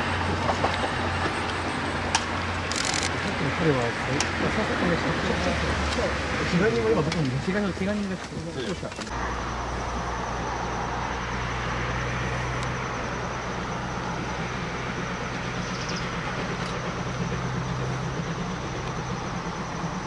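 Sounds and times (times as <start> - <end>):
cars passing on road: 0.0 - 20.0
distant steam locomotive running: 0.0 - 20.0.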